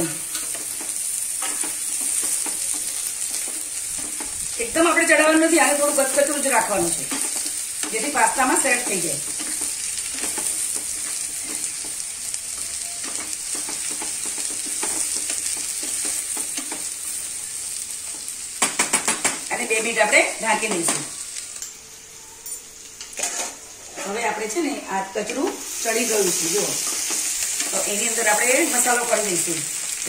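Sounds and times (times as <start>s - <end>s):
spatula stirring and scraping pan: 0.0s - 19.4s, 23.0s - 30.0s
vegetables sizzling in oil: 0.0s - 30.0s.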